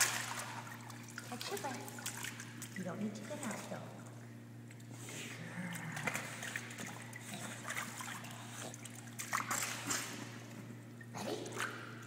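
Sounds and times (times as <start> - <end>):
short water splashes: 0.0 - 4.3, 5.7 - 12.0
pool water trickling and splashing: 0.0 - 12.0
steady low hum: 0.0 - 12.0.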